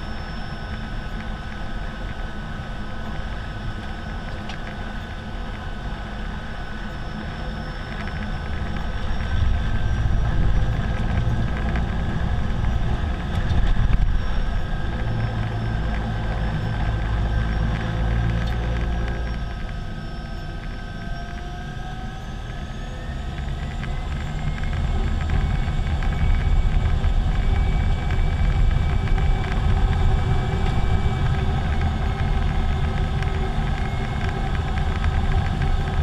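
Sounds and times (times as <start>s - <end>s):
turboprop engine whine and rumble: 0.0s - 36.0s.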